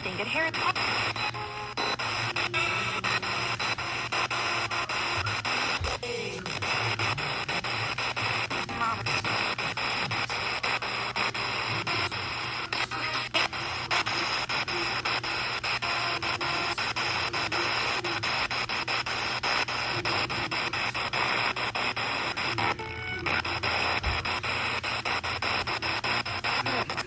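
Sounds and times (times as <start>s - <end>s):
radio static hiss and crackle: 0.0s - 27.0s.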